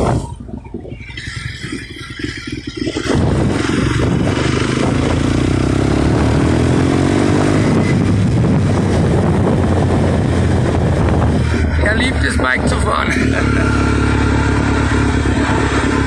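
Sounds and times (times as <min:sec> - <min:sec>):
motorcycle engine pulling away: 0:00.0 - 0:16.0.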